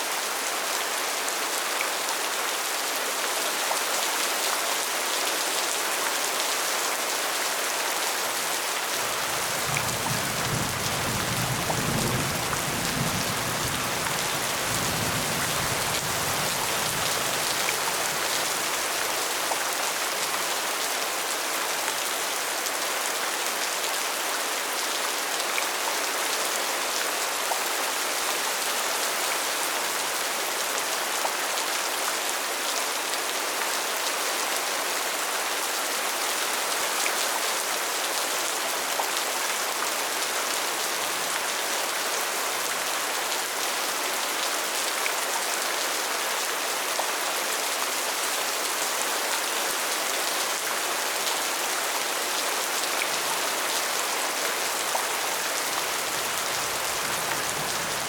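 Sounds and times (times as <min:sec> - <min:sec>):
dense rain falling: 0:00.0 - 0:58.0.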